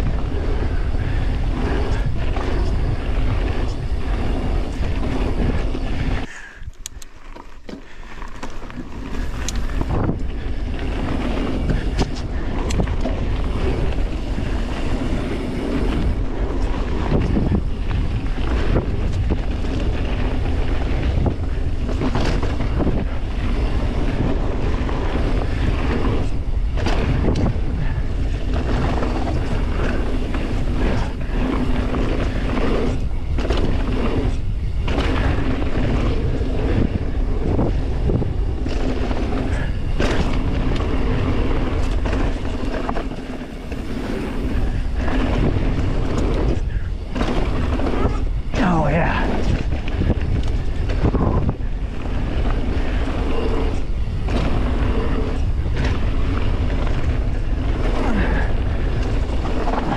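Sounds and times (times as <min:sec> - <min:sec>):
bike tyres rolling on gravel: 0:00.0 - 0:59.9
wind noise on microphone: 0:00.0 - 0:59.9
bike knocks and rattles: 0:07.2 - 0:48.6, 0:49.4 - 0:59.9.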